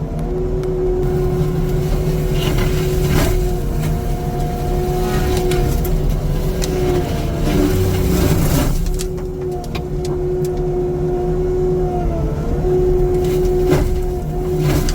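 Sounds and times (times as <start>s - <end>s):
diesel machinery rumbling: 0.0s - 14.9s
hydraulic whine: 1.0s - 14.9s.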